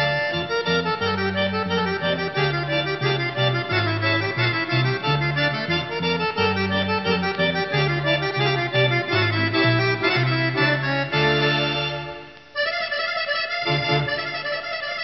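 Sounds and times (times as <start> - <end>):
accordion music: 0.0 - 15.0.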